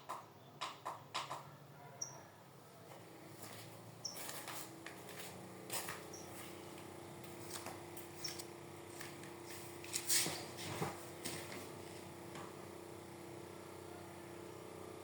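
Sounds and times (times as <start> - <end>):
fan motor humming: 0.0 - 15.0.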